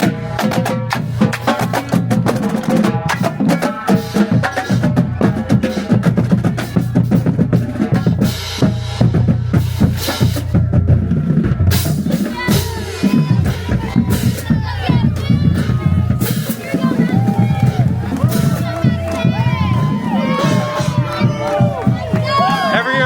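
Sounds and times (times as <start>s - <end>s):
drums beating: 0.0s - 23.0s
marching band playing: 0.0s - 23.0s.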